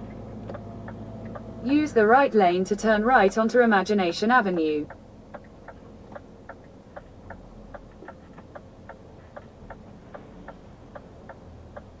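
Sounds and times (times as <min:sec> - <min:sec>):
engine rumble: 0:00.0 - 0:12.0
turn signal ticking: 0:00.0 - 0:12.0.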